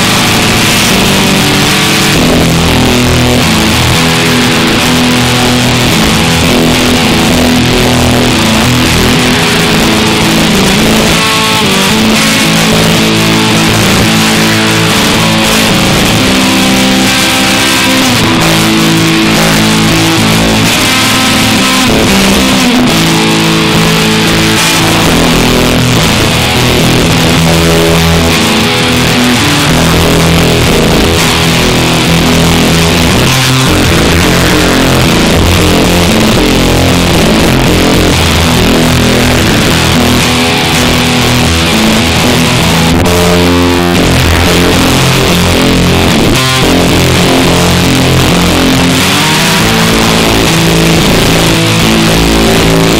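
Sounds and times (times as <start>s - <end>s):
electric guitar sustained notes: 0.0s - 52.9s.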